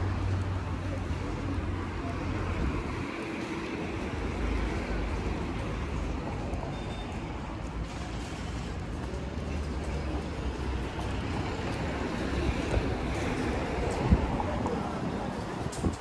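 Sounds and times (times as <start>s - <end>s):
car engines and tyres rumbling: 0.0s - 16.0s.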